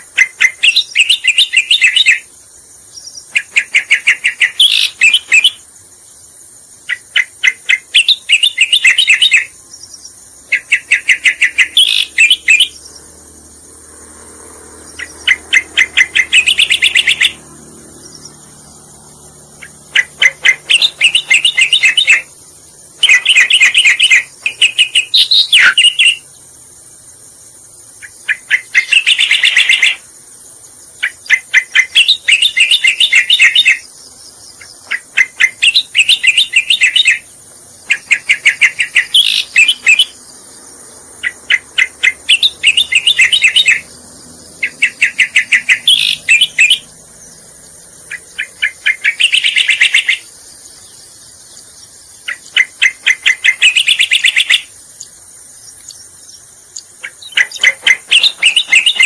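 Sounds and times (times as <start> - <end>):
bird song with stutter and trill: 0.0 - 59.0.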